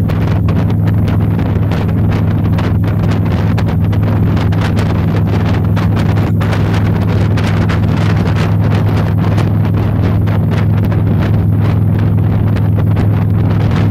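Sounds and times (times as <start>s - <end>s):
boat engine drone: 0.0s - 13.9s
wind buffeting microphone: 0.0s - 13.9s.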